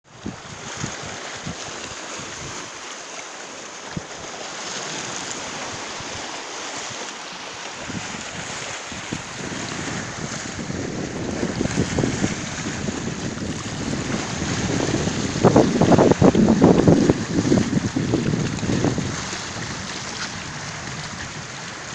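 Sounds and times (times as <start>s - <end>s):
sea waves washing onto beach: 0.0s - 21.9s
wind buffeting microphone: 0.1s - 2.8s, 3.9s - 21.9s.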